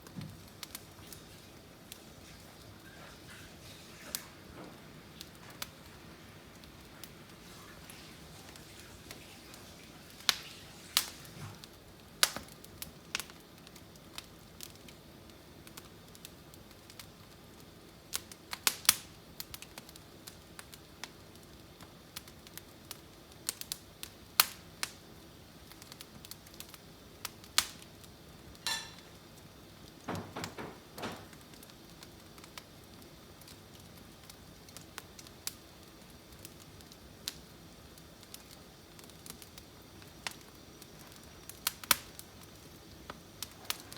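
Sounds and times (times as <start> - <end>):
firewood crackling and popping: 0.0 - 43.9.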